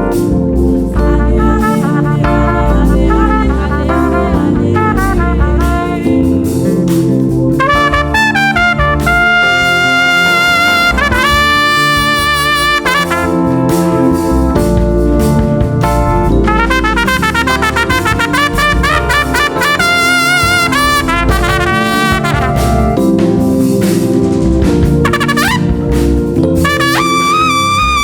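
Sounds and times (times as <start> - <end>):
band accompaniment: 0.0 - 28.0
solo trumpet playing: 1.0 - 6.4, 7.6 - 15.1, 16.3 - 23.3, 25.0 - 28.0.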